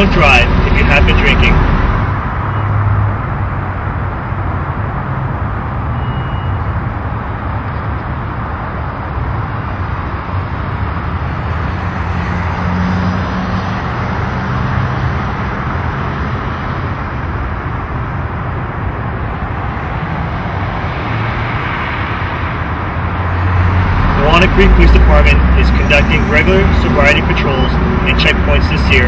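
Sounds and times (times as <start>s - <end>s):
car engines humming: 0.0s - 29.0s
road traffic rumbling: 0.0s - 29.0s.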